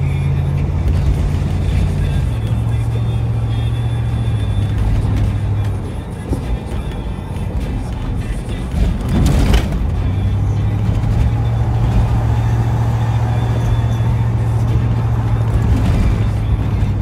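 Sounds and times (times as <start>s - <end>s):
car driving heard from inside: 0.0s - 17.0s.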